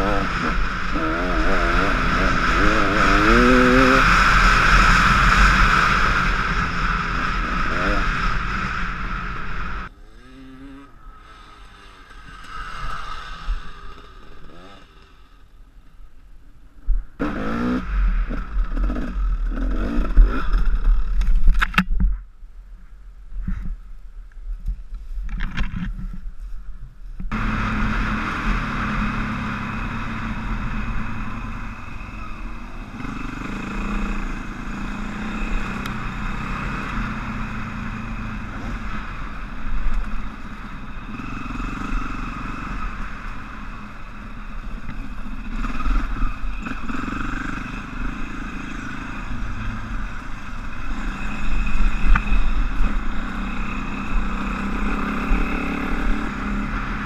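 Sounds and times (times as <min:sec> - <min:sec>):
dirt bike engine revving: 0:00.0 - 0:15.5, 0:17.2 - 0:21.2, 0:27.3 - 0:57.0.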